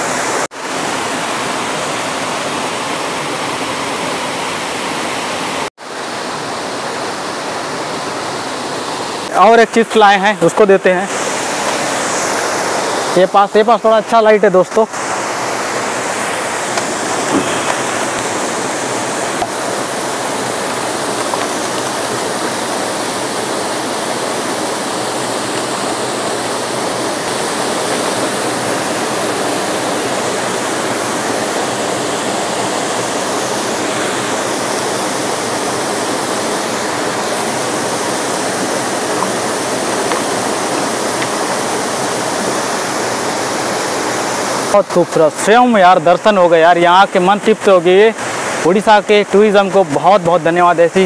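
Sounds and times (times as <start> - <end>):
stream rushing over stones: 0.0 - 51.0.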